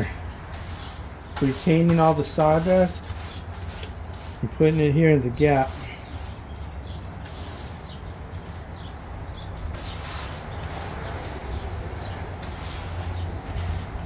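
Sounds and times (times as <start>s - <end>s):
brush scrubbing wooden board: 0.0s - 8.9s, 9.6s - 11.7s, 12.3s - 14.0s.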